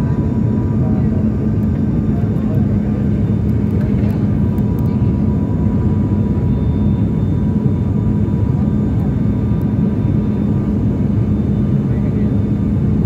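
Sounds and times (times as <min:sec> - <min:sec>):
airliner engine drone: 0:00.0 - 0:13.0.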